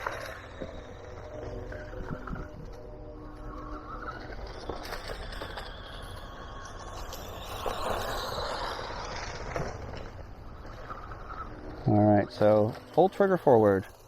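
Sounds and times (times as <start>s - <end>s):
rc car motor: 0.0s - 14.0s.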